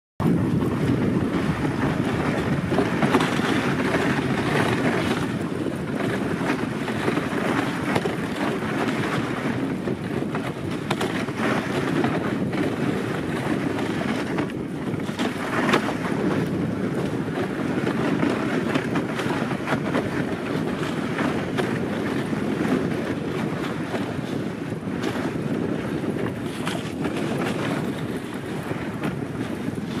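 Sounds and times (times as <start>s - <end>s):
sled runners rushing on snow: 0.2s - 30.0s
wind buffeting microphone: 0.2s - 30.0s.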